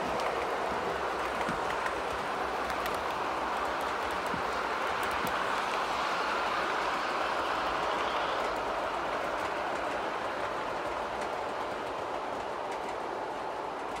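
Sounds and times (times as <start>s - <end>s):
model train wheels on rails: 0.0s - 14.0s.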